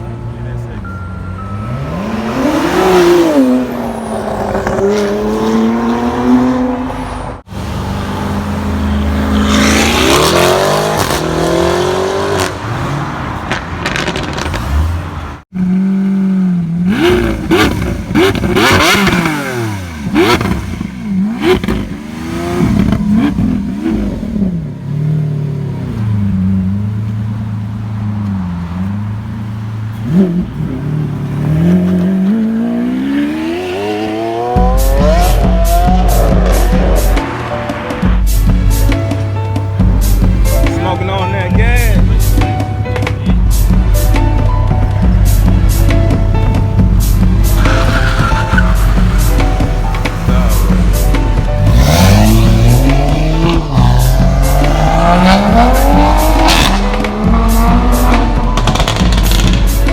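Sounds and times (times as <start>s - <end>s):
sports car engines revving: 0.0s - 59.9s.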